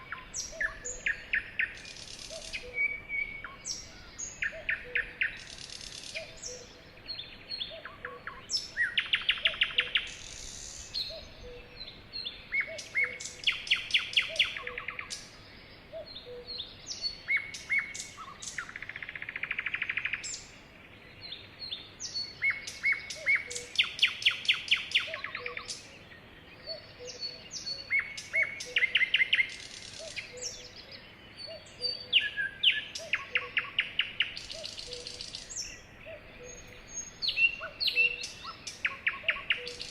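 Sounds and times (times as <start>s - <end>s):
sparrows singing: 0.0s - 39.9s.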